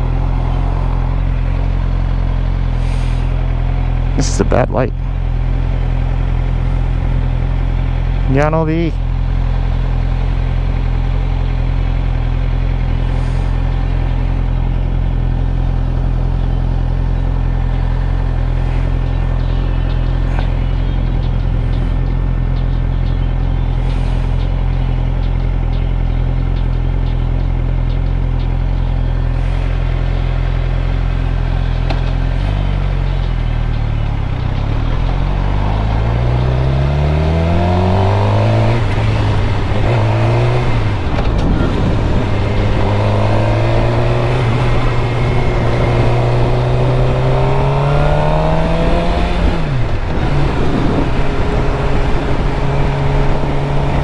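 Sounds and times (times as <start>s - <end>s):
motorcycle engine idling: 0.0s - 54.0s
motorcycle revving and pulling away: 0.0s - 54.0s.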